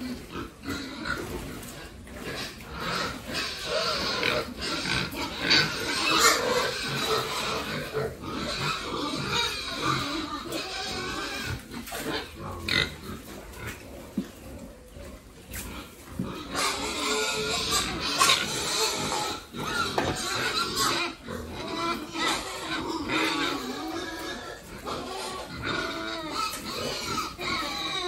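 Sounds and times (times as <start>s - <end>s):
pigs grunting and squealing: 0.0s - 28.0s.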